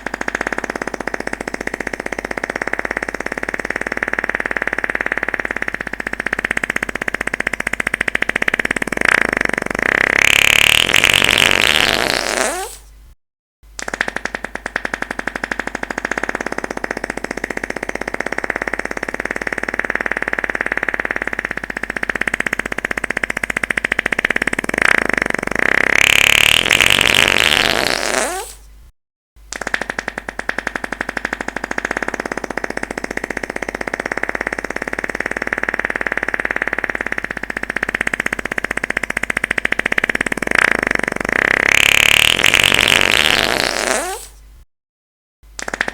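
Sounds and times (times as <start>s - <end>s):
fart sound effect: 0.0s - 12.9s, 13.8s - 28.6s, 29.5s - 44.4s, 45.6s - 45.9s.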